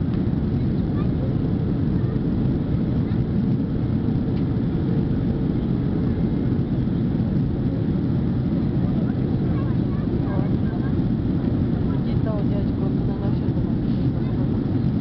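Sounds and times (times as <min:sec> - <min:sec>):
jet engine drone in cabin: 0:00.0 - 0:15.0.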